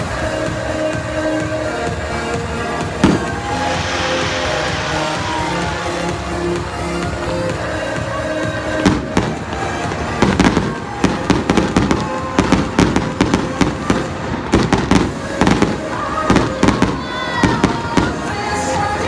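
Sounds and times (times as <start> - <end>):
fireworks bangs and crackles: 0.0 - 19.0
loud show music: 0.0 - 19.0.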